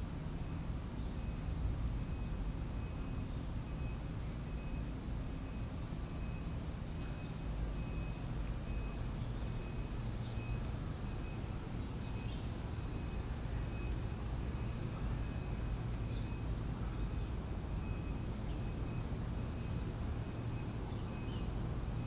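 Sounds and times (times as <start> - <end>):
low outdoor background rumble: 0.0 - 22.0.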